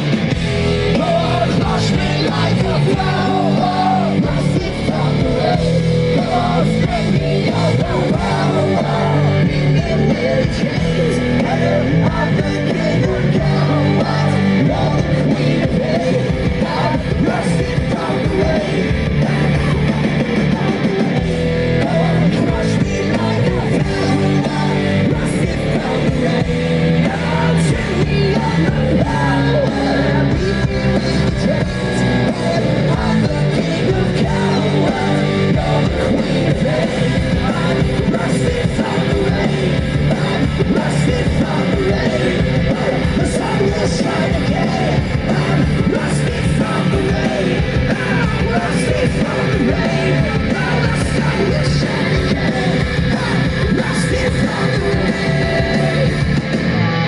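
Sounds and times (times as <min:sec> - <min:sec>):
live rock band playing: 0:00.0 - 0:57.0
shouted vocals: 0:00.0 - 0:57.0.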